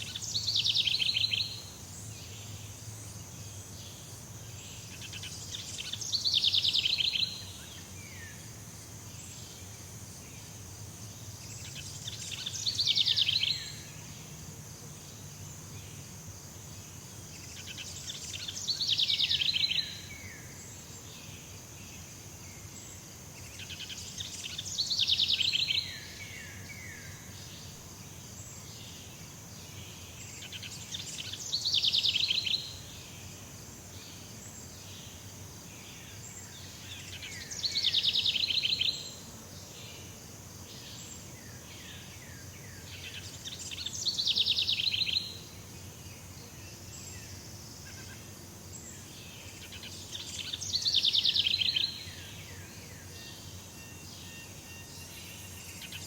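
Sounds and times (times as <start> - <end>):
high insect hum: 0.0 - 56.0.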